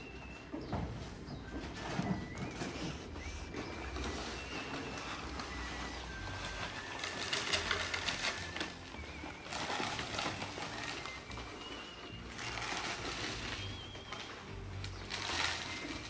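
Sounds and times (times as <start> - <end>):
feed pouring into plastic tubs: 1.8 - 16.0.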